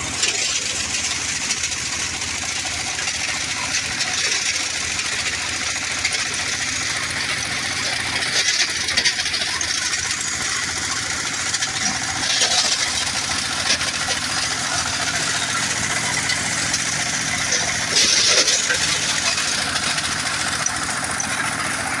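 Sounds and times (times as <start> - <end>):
stones rattling being ground: 0.0 - 22.0.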